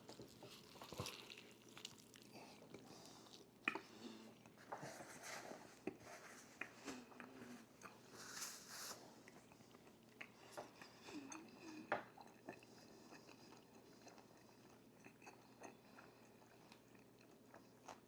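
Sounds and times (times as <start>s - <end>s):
chewing and crunching: 0.0s - 8.1s, 9.1s - 18.0s.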